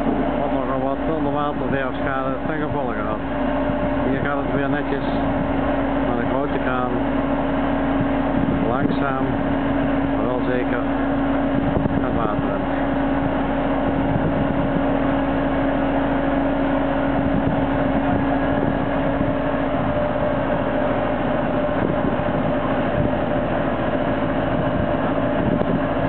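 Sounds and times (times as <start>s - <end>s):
engine and hydraulics droning: 0.0s - 26.0s.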